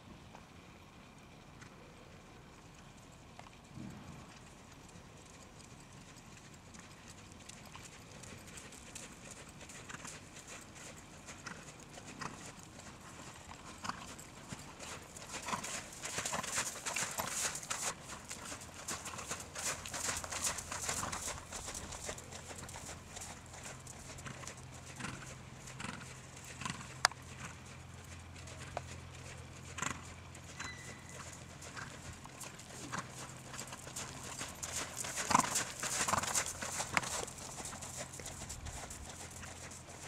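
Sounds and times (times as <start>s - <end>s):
horse hoofbeats on sand: 6.0s - 40.0s.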